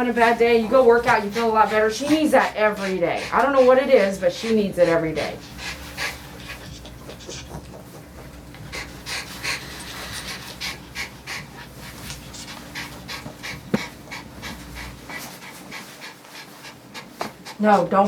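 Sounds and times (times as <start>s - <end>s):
low steady hum: 0.0s - 15.8s
dog panting: 0.0s - 18.0s.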